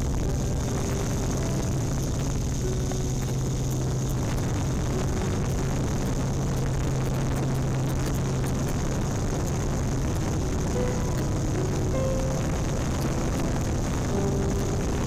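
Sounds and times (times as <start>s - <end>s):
drone motors and propellers humming: 0.0s - 15.0s.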